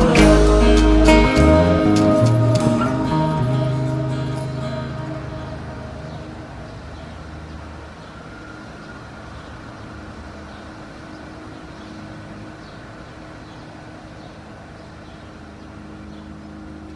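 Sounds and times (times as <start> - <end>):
road noise: 0.0 - 16.9
wind: 0.0 - 16.9.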